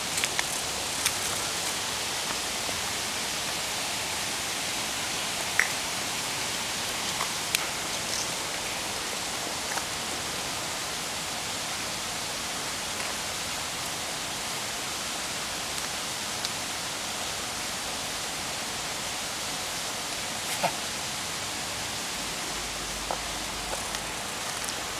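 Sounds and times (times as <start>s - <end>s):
steady hiss: 0.0s - 24.9s.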